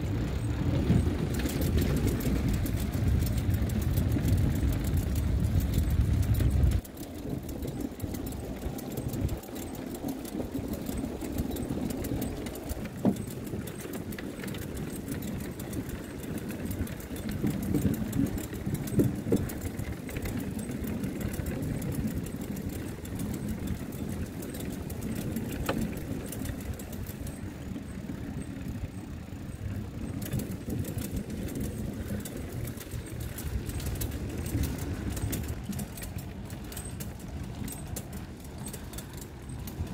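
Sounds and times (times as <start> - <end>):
bicycle tyres rumbling on boards: 0.0 - 39.9
light clicks and rattles: 0.0 - 39.9.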